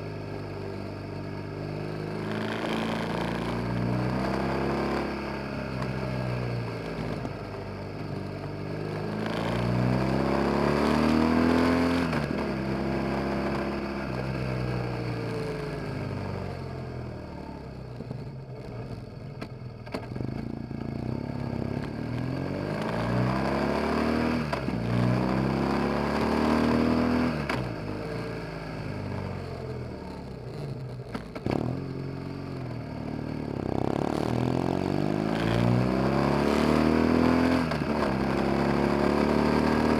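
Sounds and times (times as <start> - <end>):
motorcycle engine revving: 1.6 - 8.1, 8.7 - 39.9.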